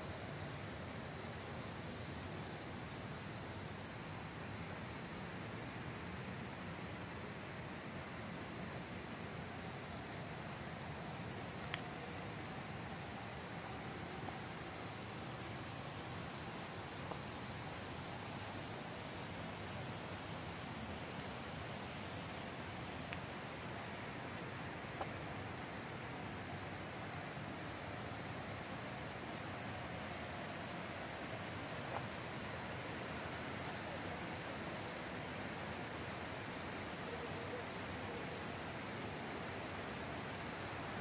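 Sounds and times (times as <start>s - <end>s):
faint background hiss: 0.0s - 41.0s
insects droning: 0.0s - 41.0s.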